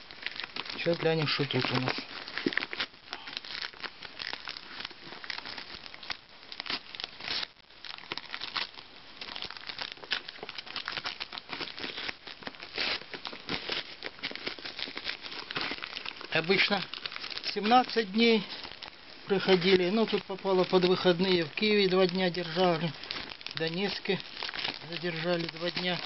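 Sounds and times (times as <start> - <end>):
plastic bag crinkling and tearing: 0.0 - 26.0.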